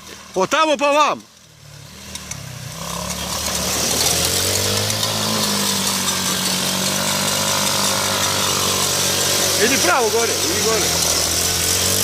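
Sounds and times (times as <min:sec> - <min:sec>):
quad bike engine running: 0:01.5 - 0:12.0.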